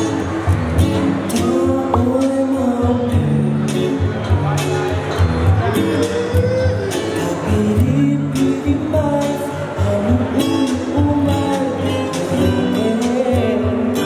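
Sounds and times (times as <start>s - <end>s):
strummed guitar: 0.0s - 14.0s
person singing: 0.8s - 4.1s, 5.5s - 14.0s.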